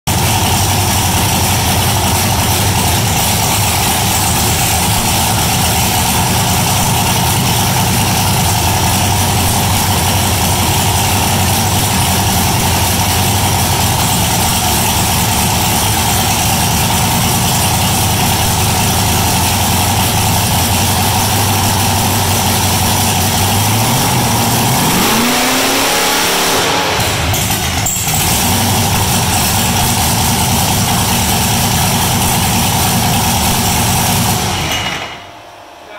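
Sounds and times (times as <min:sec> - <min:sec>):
race engine idling and revving: 0:00.0 - 0:35.0.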